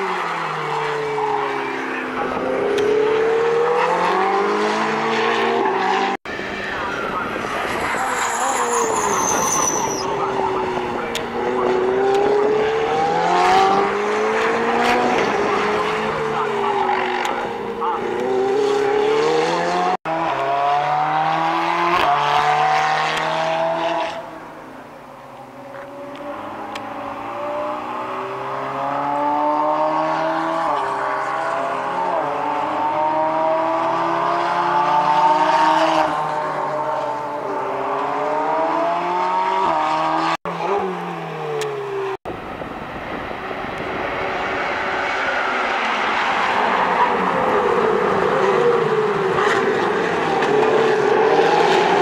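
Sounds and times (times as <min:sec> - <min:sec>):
race car engines accelerating past: 0:00.0 - 0:09.4, 0:10.0 - 0:24.3, 0:25.6 - 0:42.2, 0:43.3 - 0:52.0.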